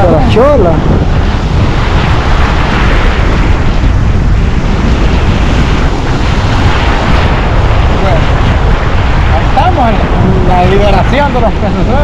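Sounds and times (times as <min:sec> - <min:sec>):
strong wind buffeting microphone: 0:00.0 - 0:12.0
surf washing up on beach: 0:00.0 - 0:12.0.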